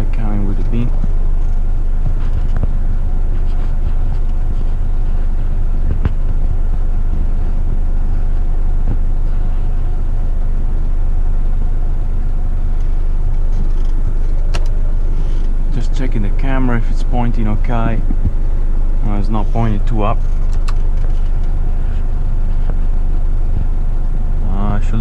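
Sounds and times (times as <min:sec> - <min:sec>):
diesel truck engine rumbling: 0:00.0 - 0:25.0.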